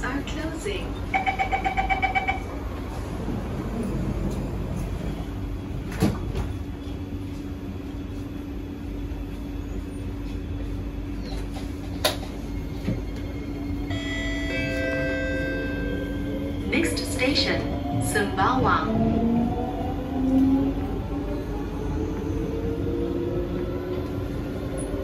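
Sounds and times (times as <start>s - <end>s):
train cabin rumble: 0.0s - 25.0s.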